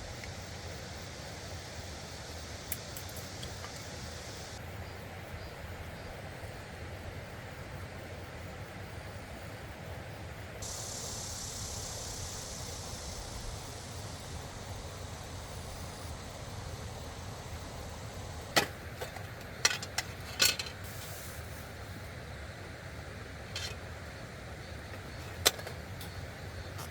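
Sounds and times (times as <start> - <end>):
high hiss: 0.0 - 26.9.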